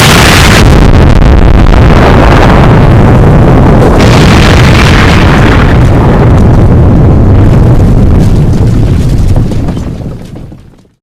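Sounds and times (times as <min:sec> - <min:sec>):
distorted explosions: 0:00.0 - 0:10.9.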